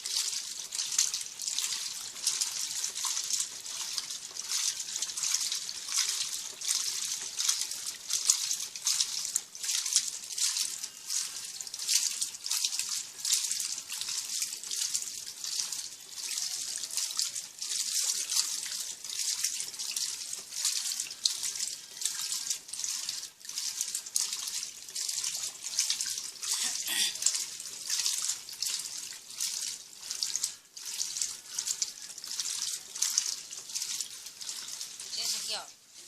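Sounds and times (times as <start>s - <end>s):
washing machine water sloshing: 0.0s - 36.0s.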